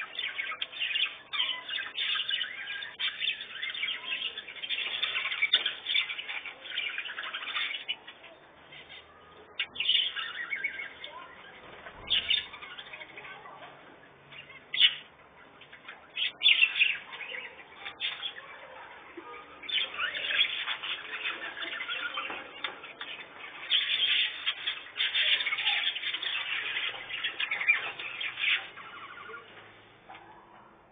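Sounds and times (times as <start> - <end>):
canaries chirping: 0.0 - 30.9.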